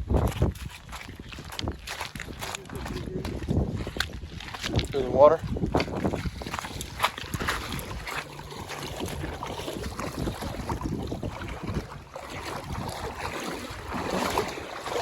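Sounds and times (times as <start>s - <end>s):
wind buffeting microphone: 0.0s - 15.0s
water sloshing around boat: 0.1s - 15.0s.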